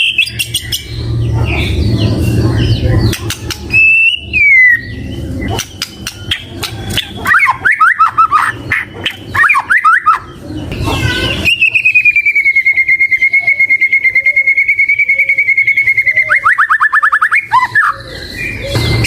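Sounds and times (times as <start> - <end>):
songbird whistling and trilling: 0.0 - 10.3, 11.1 - 19.0.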